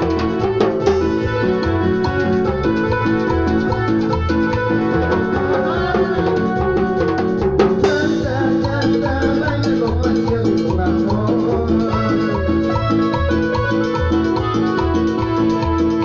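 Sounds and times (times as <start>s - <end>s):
band playing cumbia dance music: 0.0s - 16.0s.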